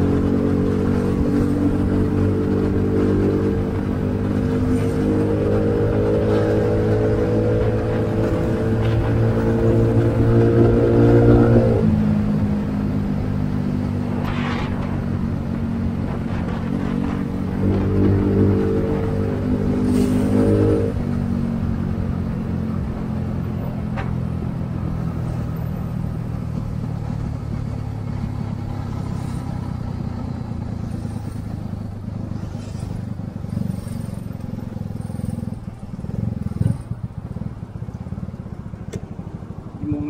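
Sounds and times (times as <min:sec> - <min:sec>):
motorcycle engine running: 0:00.0 - 0:40.0
traffic noise: 0:00.0 - 0:40.0.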